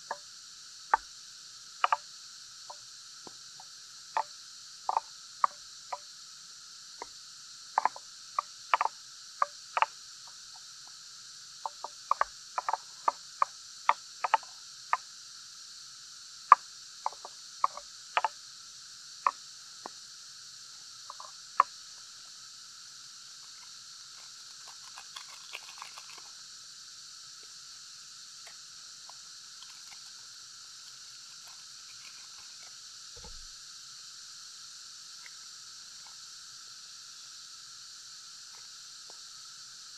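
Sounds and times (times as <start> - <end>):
rainforest insects chorus: 0.0 - 39.9.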